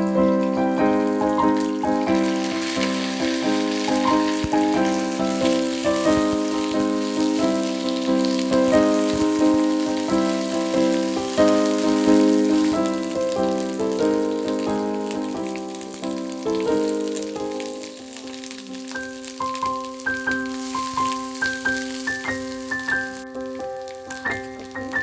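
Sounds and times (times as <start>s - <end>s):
food frying in oil: 0.0s - 25.0s.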